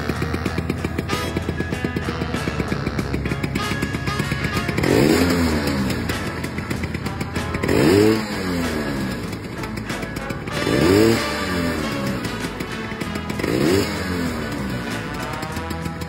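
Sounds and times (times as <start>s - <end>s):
scooter engine revving and idling: 0.0s - 16.0s.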